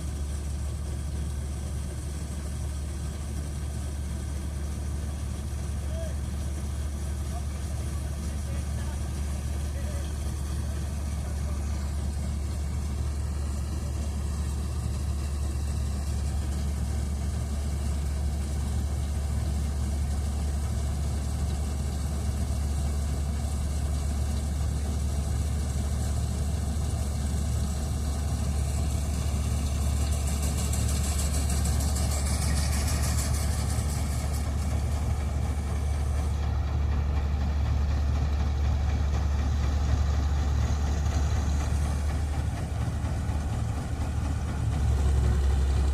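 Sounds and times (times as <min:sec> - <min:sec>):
combine harvester diesel engine: 0:00.0 - 0:45.9.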